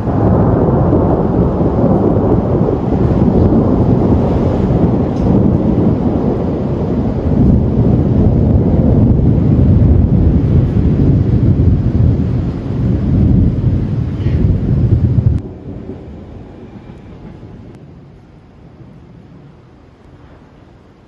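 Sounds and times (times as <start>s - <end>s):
rolling thunder: 0.0s - 21.0s.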